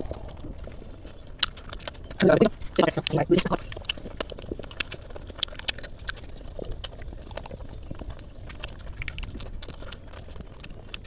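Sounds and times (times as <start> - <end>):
chewing with wet mouth clicks: 0.0 - 11.0.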